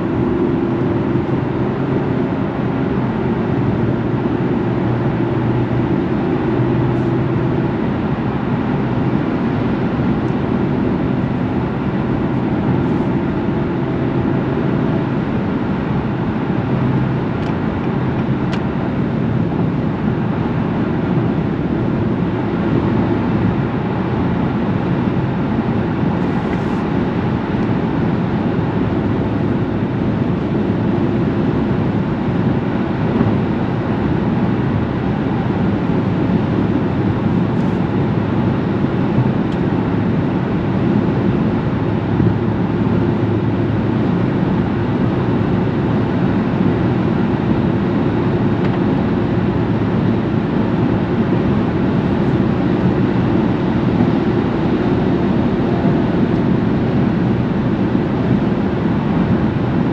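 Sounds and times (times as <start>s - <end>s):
vehicle rumble: 0.0s - 59.9s.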